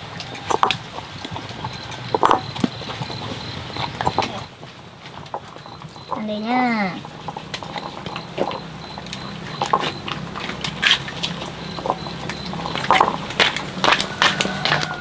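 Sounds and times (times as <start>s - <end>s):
pet chewing and biting: 0.0s - 4.5s, 5.1s - 15.0s.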